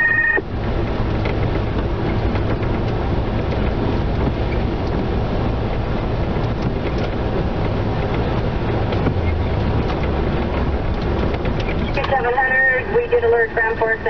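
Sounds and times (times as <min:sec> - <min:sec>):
car cabin rumble and hiss: 0:00.0 - 0:14.0.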